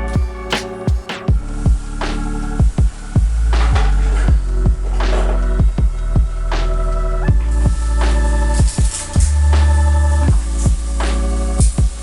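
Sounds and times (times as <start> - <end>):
deep pulsing bass: 0.0 - 12.0.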